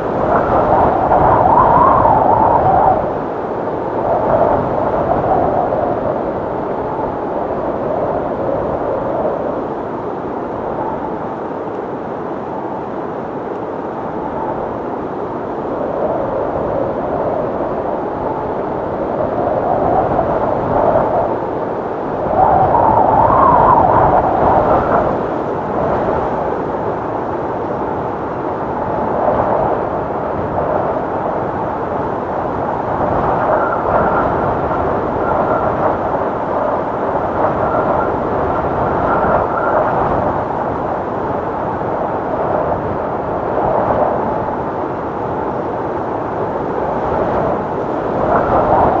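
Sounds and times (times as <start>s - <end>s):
howling wind gusts: 0.0s - 49.0s.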